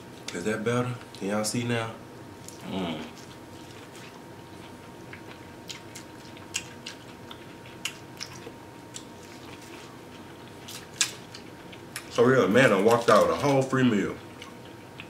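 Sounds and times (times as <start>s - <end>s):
chewing corn on the cob: 2.4s - 15.0s.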